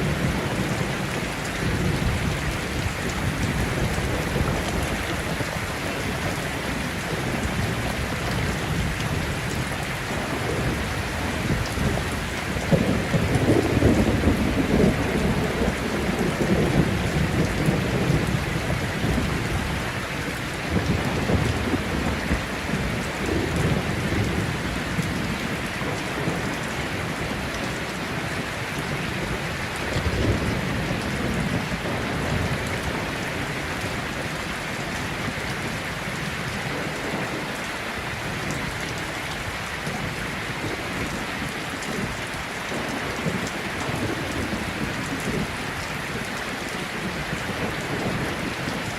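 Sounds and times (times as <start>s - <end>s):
thunder rumbling: 0.0s - 46.2s
heavy rain falling: 0.0s - 48.9s.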